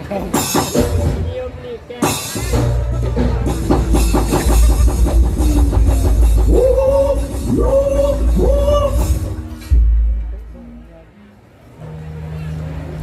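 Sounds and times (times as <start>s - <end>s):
busy drumming: 0.0s - 10.8s.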